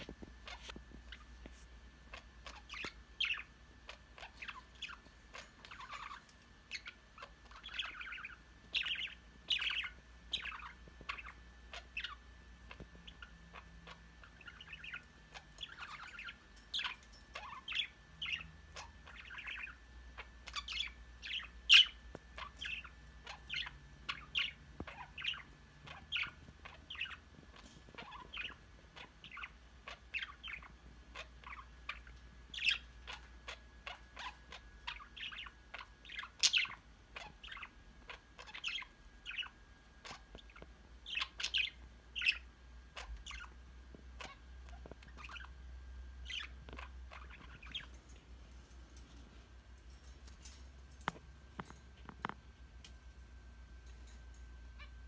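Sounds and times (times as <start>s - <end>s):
budgerigars chirping: 2.1s - 45.6s, 46.2s - 48.0s.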